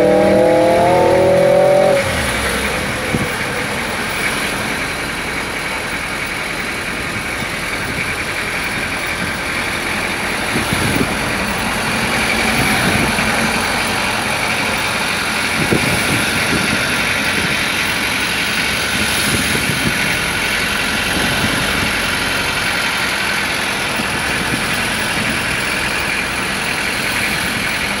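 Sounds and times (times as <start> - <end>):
road noise: 0.0 - 28.0
vehicle engine: 0.0 - 28.0.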